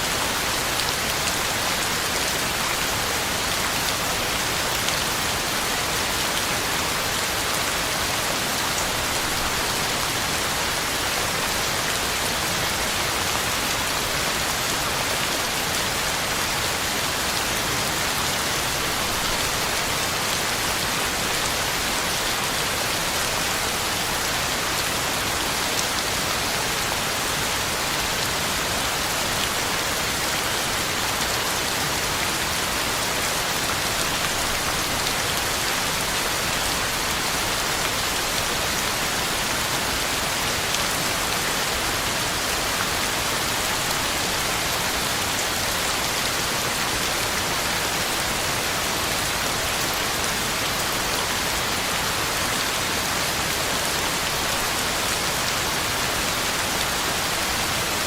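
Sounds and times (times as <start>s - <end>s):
heavy rain on ground and leaves: 0.0s - 58.0s.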